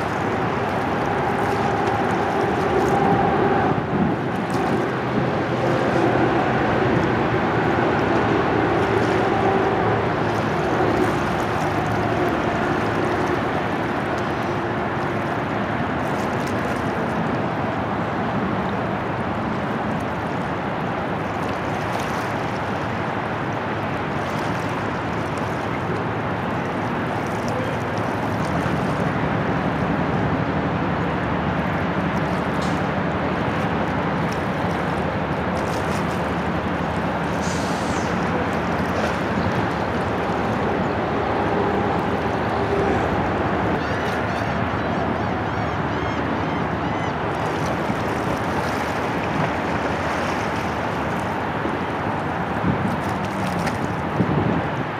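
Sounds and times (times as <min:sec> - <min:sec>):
faint low engine hum: 0:00.0 - 0:54.9
water at shore: 0:00.0 - 0:54.9
wind: 0:00.0 - 0:54.9.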